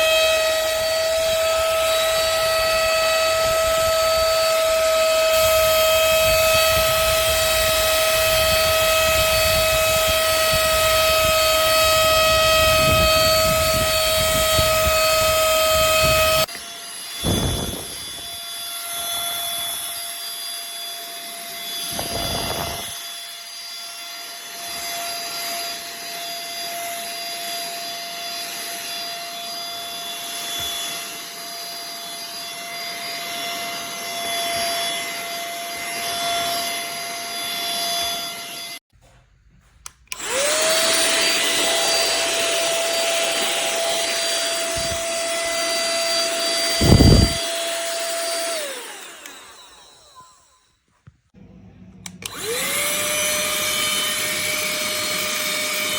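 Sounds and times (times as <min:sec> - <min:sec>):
handheld vacuum running: 0:00.0 - 0:38.8, 0:39.8 - 0:50.7, 0:51.4 - 0:55.9.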